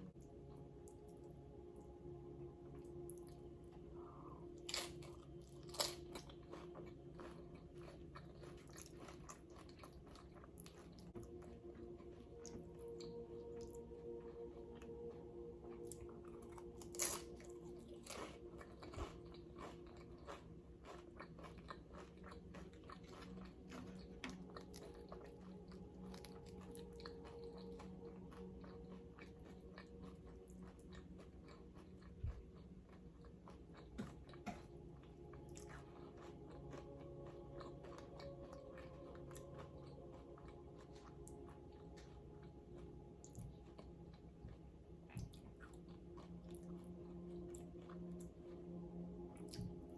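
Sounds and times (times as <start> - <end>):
chewing crunchy chips: 0.0 - 49.9.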